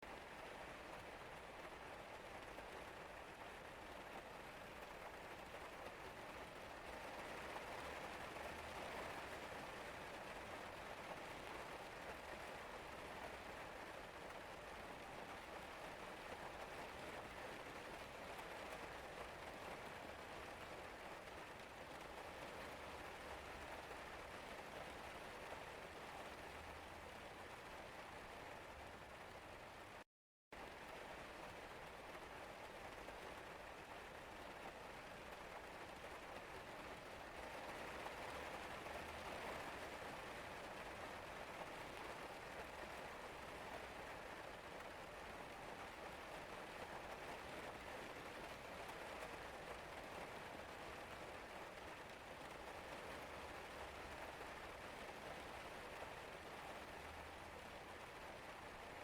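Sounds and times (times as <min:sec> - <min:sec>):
steady rain falling: 0:00.0 - 0:30.0, 0:30.6 - 0:59.0.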